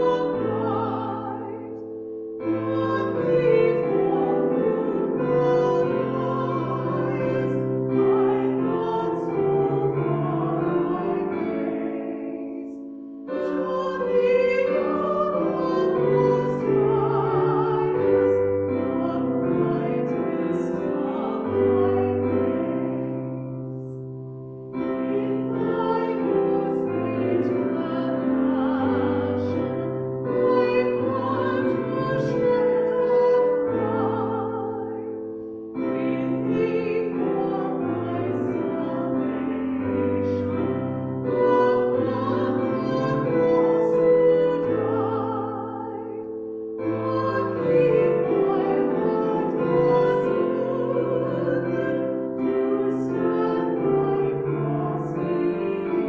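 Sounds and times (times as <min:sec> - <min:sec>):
people singing a hymn: 0:00.0 - 0:24.0, 0:24.8 - 0:56.0
keyboard accompaniment: 0:00.0 - 0:56.0.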